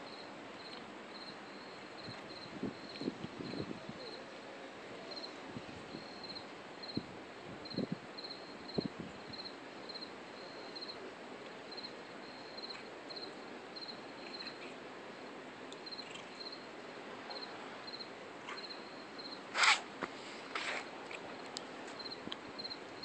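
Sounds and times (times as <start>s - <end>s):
night insects chirping: 0.0s - 4.2s, 5.0s - 11.0s, 11.6s - 19.8s, 21.3s - 23.0s.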